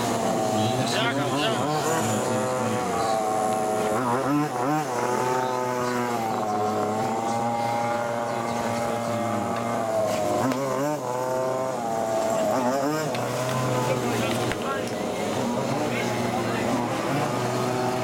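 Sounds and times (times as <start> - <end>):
engine revving on throttle blips: 0.0 - 18.0
small two-stroke engine idling: 0.0 - 18.0.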